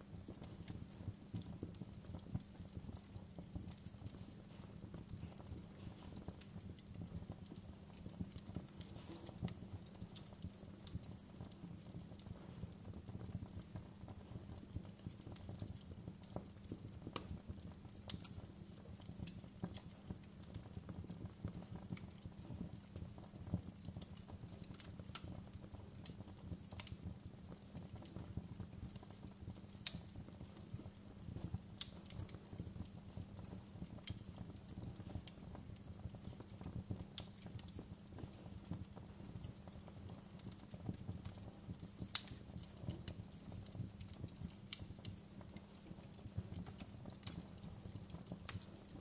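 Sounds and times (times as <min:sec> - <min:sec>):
low rumble of burning: 0:00.0 - 0:49.0
wood fire crackling: 0:00.0 - 0:49.0.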